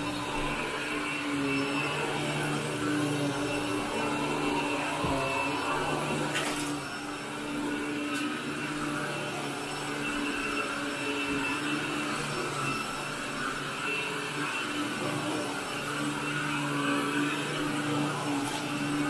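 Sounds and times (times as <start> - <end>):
vacuum cleaner running over carpet: 0.0 - 19.0.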